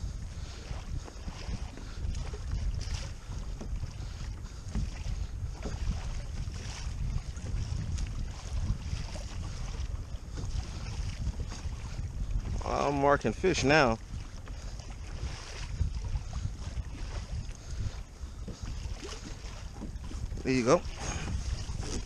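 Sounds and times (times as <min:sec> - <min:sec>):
water splashing along kayak hull: 0:00.0 - 0:22.0
wind buffeting microphone: 0:00.0 - 0:22.0.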